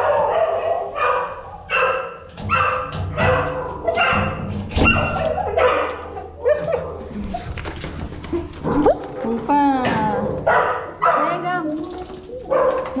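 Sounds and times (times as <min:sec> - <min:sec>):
dogs barking and yipping: 0:00.0 - 0:09.4, 0:10.0 - 0:13.0.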